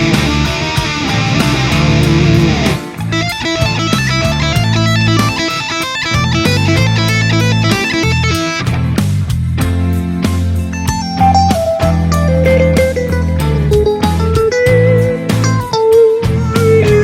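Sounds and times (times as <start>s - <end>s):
electric guitar: 0.0s - 17.0s.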